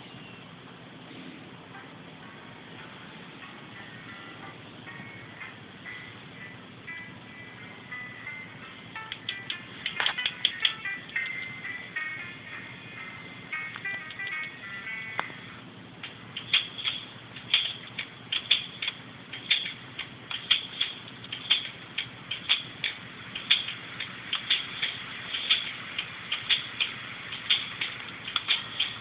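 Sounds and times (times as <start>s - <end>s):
steady clock ticking: 2.2s - 29.0s.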